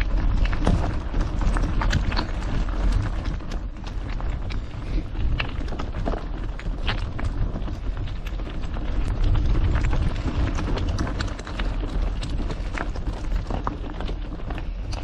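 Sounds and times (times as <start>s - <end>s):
bike rattling and clicking: 0.0s - 15.0s
bike tyres crunching on gravel: 0.0s - 15.0s
wind rumble on microphone: 0.0s - 15.0s.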